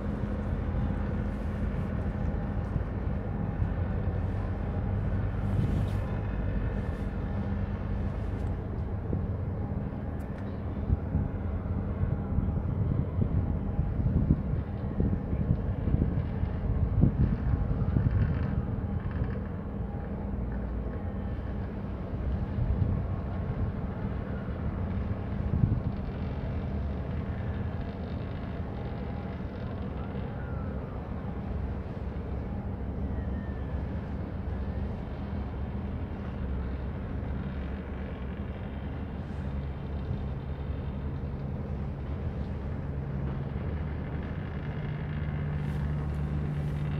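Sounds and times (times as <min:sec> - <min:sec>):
wind buffeting microphone: 0:00.0 - 0:19.9, 0:21.6 - 0:46.9
low engine rumble with hum: 0:00.0 - 0:46.9.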